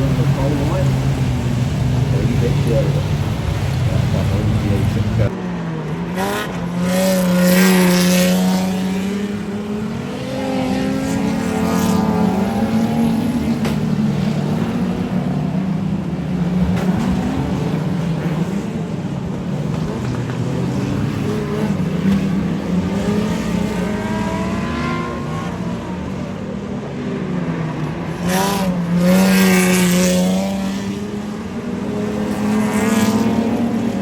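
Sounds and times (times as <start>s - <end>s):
race car engines droning: 0.0s - 34.0s
race car passing close: 0.0s - 34.0s.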